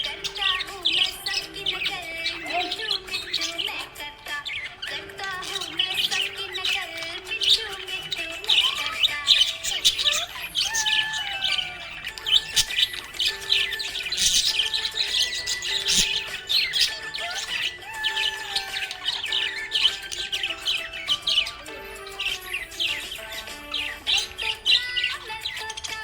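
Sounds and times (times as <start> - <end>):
budgerigars chirping and warbling: 0.0 - 26.0.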